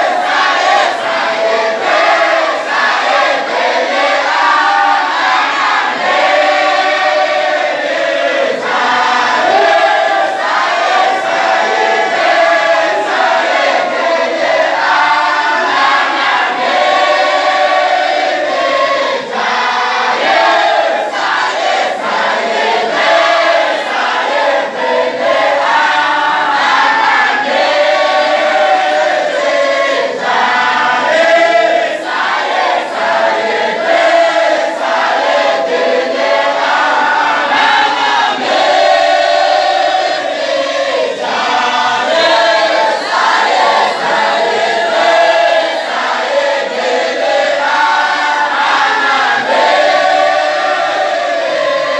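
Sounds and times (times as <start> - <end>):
men chanting in unison: 0.0 - 51.9.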